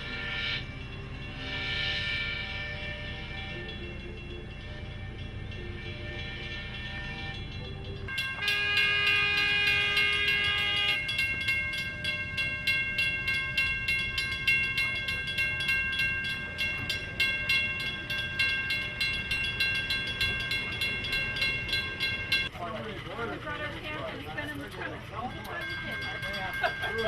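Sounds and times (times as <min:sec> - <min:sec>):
steam whistle chord: 0:00.0 - 0:22.4
steam exhaust chuffing: 0:00.0 - 0:27.0.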